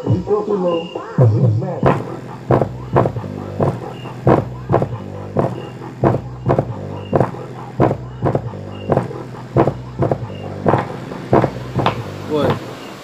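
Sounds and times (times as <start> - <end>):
bass-heavy music through subwoofer: 0.0 - 13.0.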